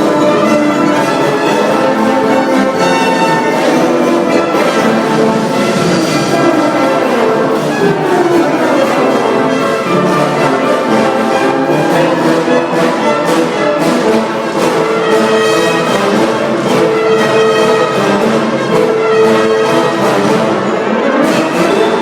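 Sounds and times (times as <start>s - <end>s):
orchestra with brass and strings: 0.0s - 22.0s.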